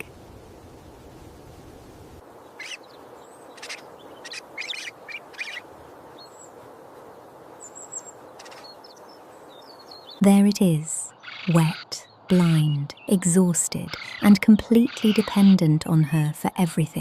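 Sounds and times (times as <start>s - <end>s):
steady background hiss: 0.0s - 15.2s.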